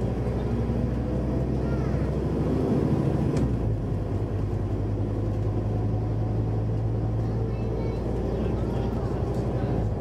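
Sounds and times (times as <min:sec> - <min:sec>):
bus diesel engine droning: 0:00.0 - 0:10.0
road and tyre noise: 0:00.0 - 0:10.0.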